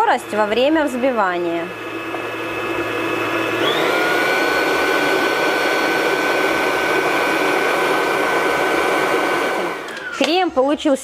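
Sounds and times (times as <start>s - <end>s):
stand mixer motor whine: 0.0s - 10.4s.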